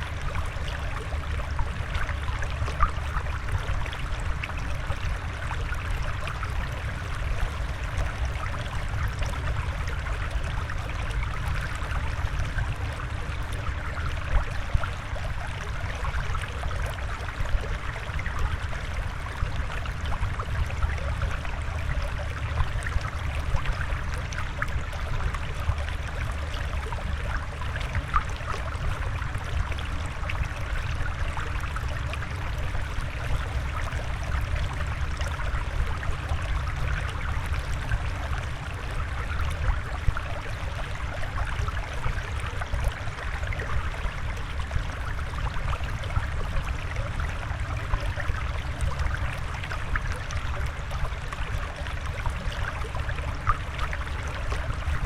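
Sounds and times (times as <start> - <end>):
water flowing and bubbling: 0.0 - 55.0.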